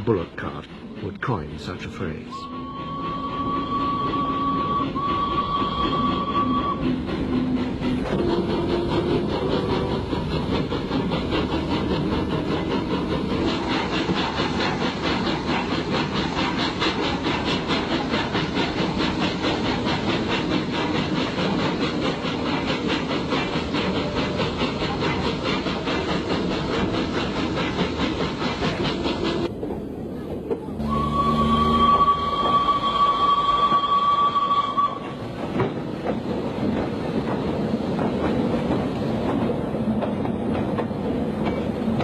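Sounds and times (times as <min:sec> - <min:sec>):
locomotive rhythmic beat: 0:00.0 - 0:42.0
steam hissing: 0:00.0 - 0:42.0.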